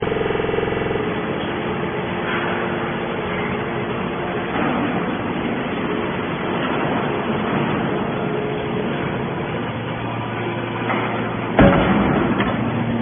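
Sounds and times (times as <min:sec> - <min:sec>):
buzzing hum: 0:00.0 - 0:13.0
scrap metal baler running: 0:00.0 - 0:13.0.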